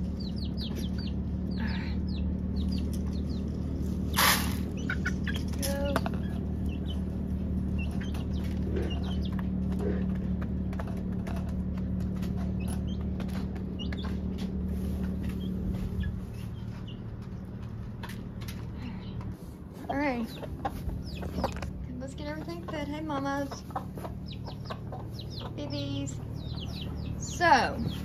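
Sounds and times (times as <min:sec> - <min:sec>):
chickens clucking: 0:00.0 - 0:28.0
low hum: 0:00.0 - 0:28.0.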